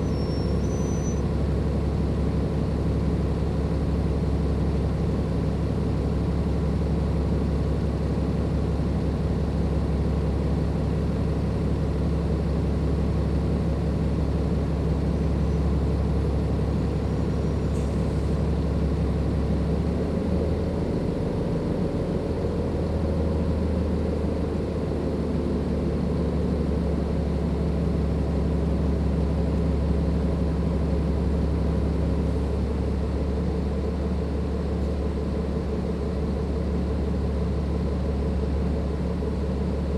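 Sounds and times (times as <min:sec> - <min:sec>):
bus diesel engine humming: 0:00.0 - 0:39.9.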